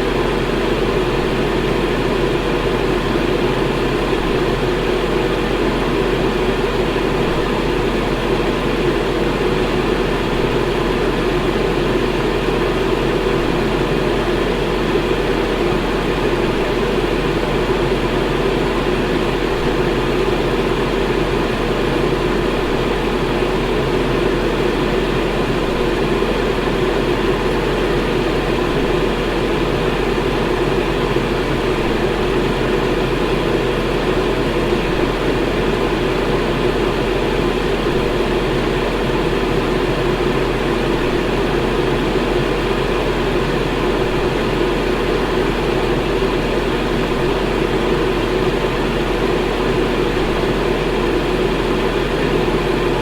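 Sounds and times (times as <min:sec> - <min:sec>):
electric fan whooshing hum: 0:00.0 - 0:53.0.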